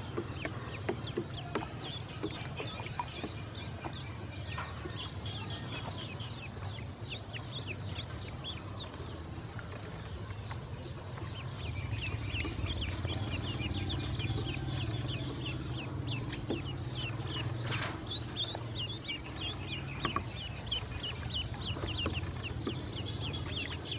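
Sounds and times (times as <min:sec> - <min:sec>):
ducklings peeping: 0:00.0 - 0:23.9.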